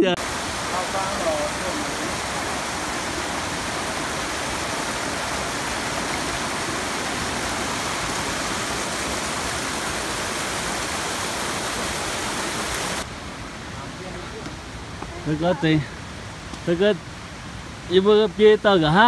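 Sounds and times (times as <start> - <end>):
creek cascading over rocks: 0.0 - 19.0.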